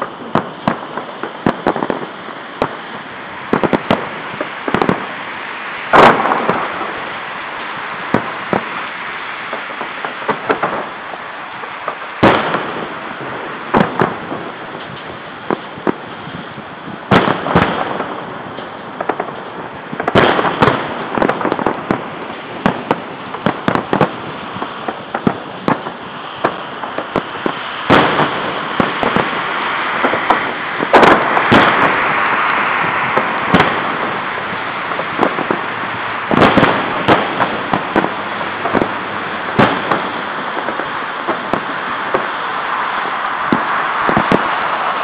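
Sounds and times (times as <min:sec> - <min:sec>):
fireworks crackling: 0:00.0 - 0:45.0
fireworks shells bursting: 0:00.0 - 0:45.0.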